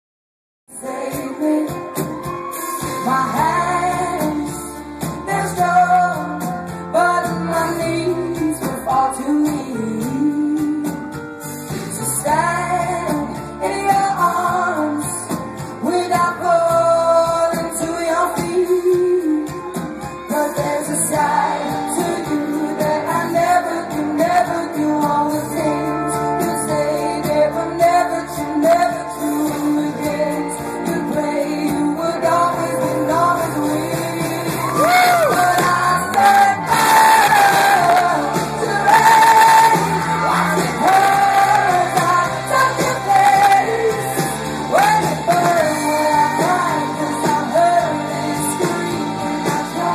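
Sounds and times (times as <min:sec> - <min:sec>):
band playing pop ballad live: 0:00.7 - 0:49.9
woman singing: 0:00.7 - 0:49.9.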